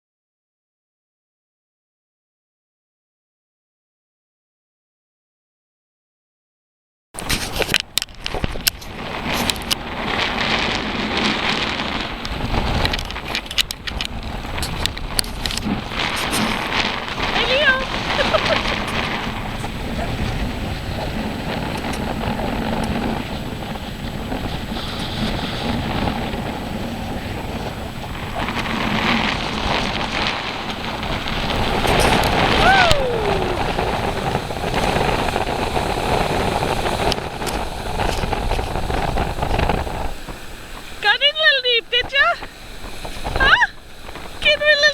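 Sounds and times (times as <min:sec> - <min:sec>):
ocean surf washing on beach: 0:07.2 - 0:44.9
wind buffeting microphone: 0:07.2 - 0:44.9.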